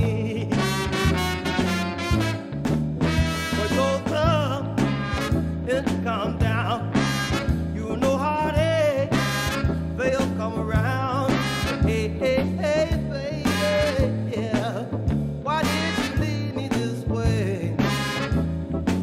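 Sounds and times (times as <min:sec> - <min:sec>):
upbeat swing song: 0:00.0 - 0:19.0.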